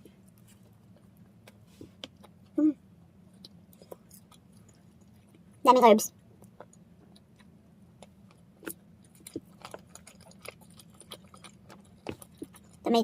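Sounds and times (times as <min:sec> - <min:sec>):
chewing bread snack: 0:00.0 - 0:02.6, 0:03.2 - 0:05.6, 0:06.2 - 0:13.0.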